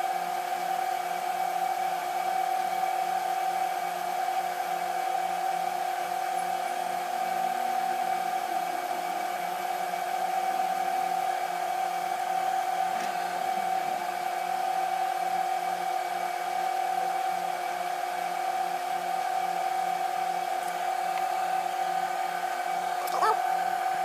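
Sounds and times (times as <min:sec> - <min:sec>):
electric whirring hum: 0:02.4 - 0:24.0.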